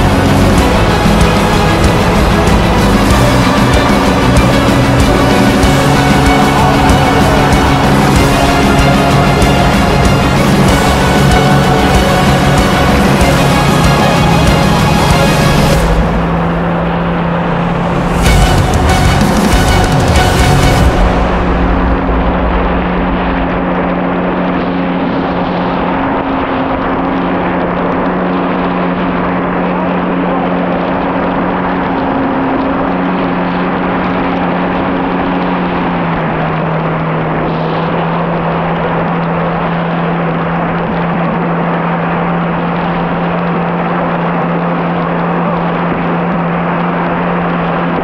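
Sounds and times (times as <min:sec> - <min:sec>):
jet ski engine: 0:00.0 - 0:48.0.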